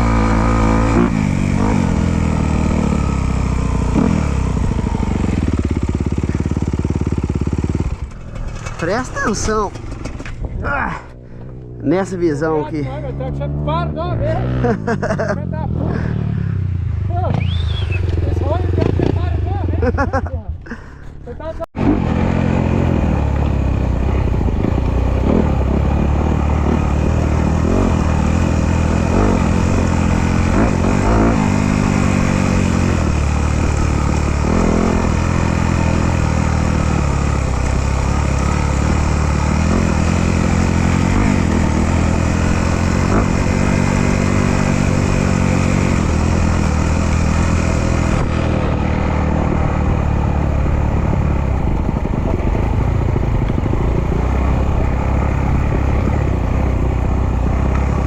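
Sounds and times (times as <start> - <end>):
dirt bike engine revving: 0.0 - 10.4, 12.9 - 20.1, 21.8 - 58.0.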